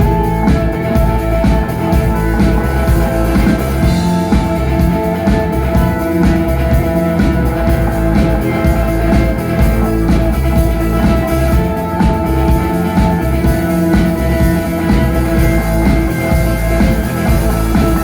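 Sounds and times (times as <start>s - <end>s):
drum kit beat: 0.0s - 18.0s
electric guitar chords: 0.0s - 18.0s.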